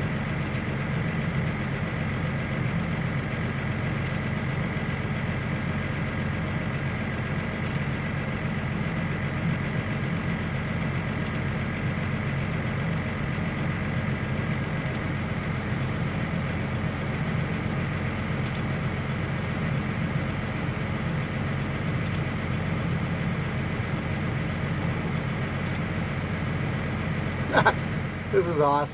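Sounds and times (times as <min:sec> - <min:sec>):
vehicle engine humming steadily: 0:00.0 - 0:28.9.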